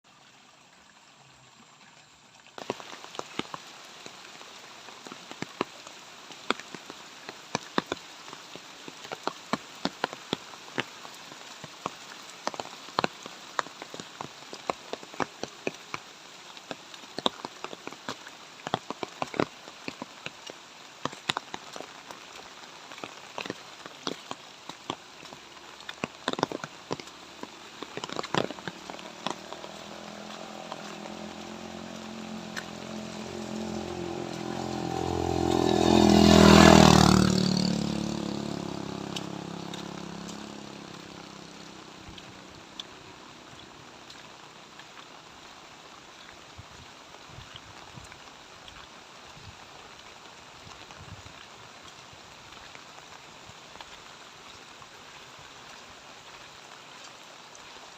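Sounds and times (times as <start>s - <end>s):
raindrops striking close by: 0.0s - 57.9s
light rain hissing: 0.1s - 57.9s.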